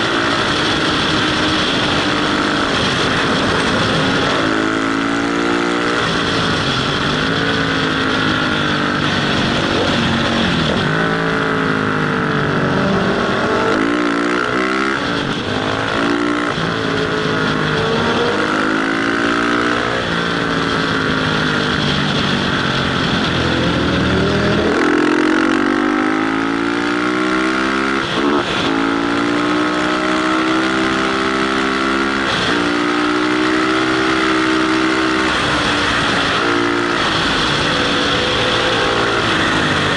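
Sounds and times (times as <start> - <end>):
motorcycle engine revving: 0.0 - 39.9
wind rush over microphone: 0.0 - 39.9.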